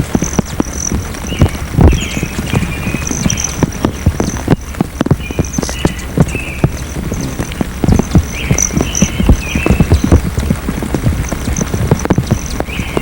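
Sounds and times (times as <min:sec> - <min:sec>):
hummingbirds chattering: 0:00.0 - 0:13.0
patter of irregular taps: 0:00.0 - 0:13.0.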